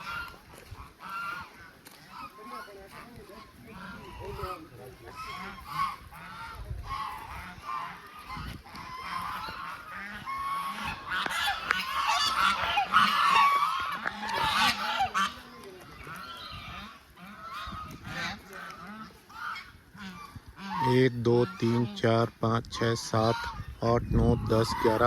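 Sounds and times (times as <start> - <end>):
flock of ducks calling: 0.0 - 25.0.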